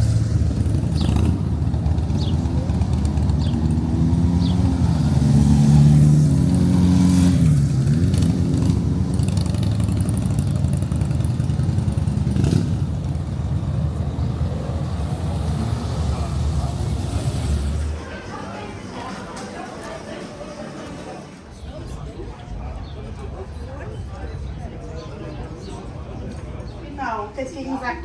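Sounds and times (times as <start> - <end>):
vehicle engine running: 0.0 - 26.2.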